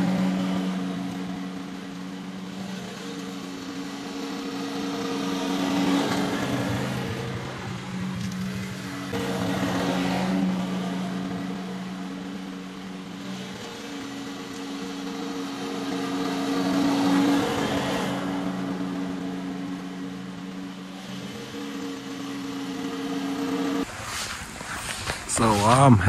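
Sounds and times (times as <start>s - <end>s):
small petrol engine running: 0.0s - 25.9s.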